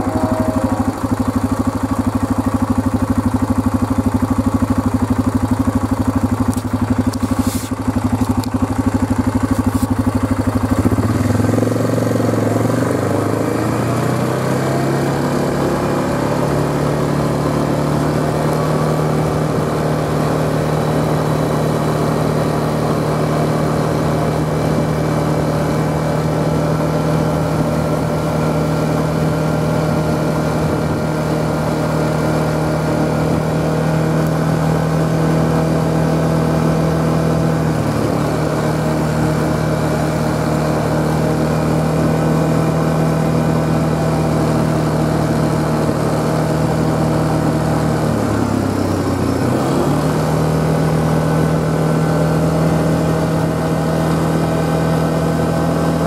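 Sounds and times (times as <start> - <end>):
small engine idling and revving: 0.0 - 56.0.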